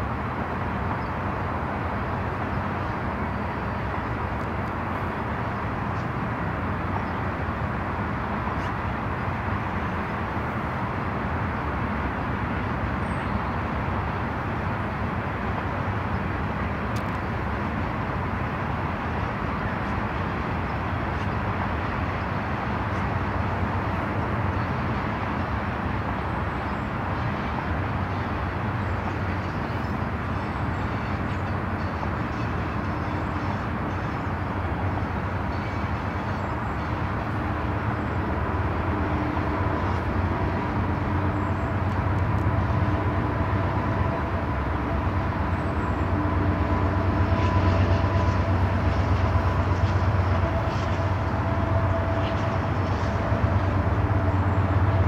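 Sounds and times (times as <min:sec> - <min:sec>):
engine hum: 0:00.0 - 0:55.0
traffic rumble: 0:00.0 - 0:55.0.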